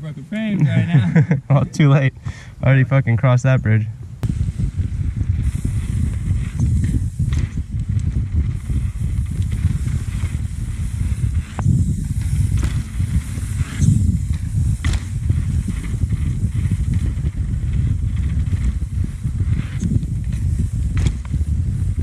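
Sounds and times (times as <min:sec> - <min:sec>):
wind rumble on microphone: 0:03.8 - 0:22.0
bike knocks and rattles: 0:04.2 - 0:22.0
tyres hissing on dirt: 0:04.3 - 0:22.0.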